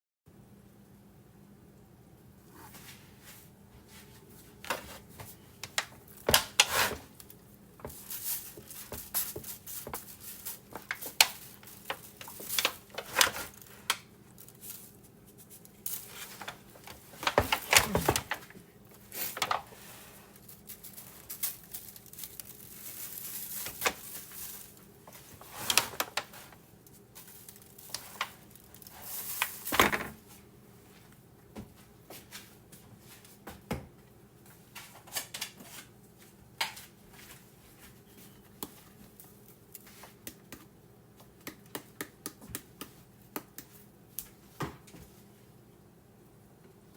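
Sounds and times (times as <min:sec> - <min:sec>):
faint steady hum: 0:00.3 - 0:46.9.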